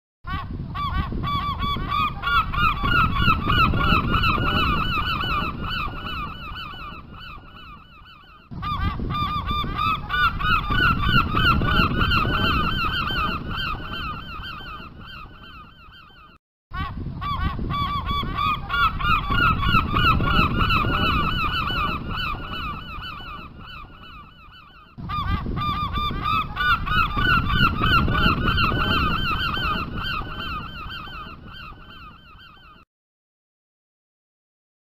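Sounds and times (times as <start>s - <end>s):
gulls calling: 0.3s - 32.9s.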